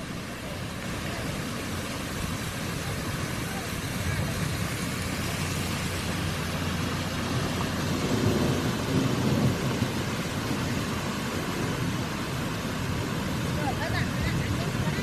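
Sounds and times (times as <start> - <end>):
heavy low rumble: 0.0 - 15.0
water rushing down cascades: 0.0 - 15.0.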